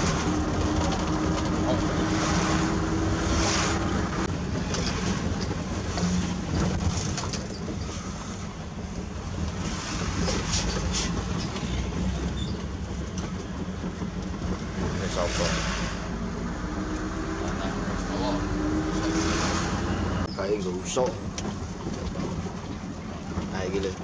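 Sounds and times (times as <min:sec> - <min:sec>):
diesel truck engine: 0:00.0 - 0:24.0
road rumble: 0:00.0 - 0:24.0.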